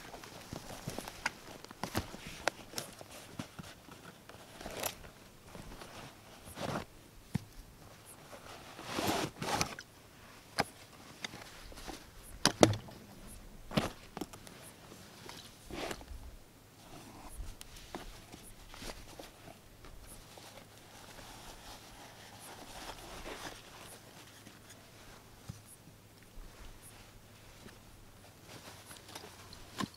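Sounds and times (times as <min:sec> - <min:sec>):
canvas and cloth rustling: 0:00.0 - 0:29.9.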